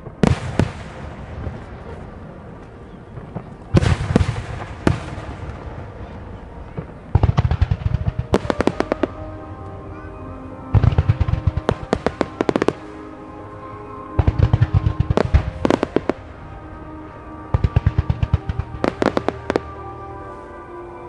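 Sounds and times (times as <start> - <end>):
fireworks bursting: 0.0 - 9.5, 10.7 - 13.5, 14.1 - 20.3
crackling hiss of fireworks: 0.0 - 9.8, 10.8 - 21.0.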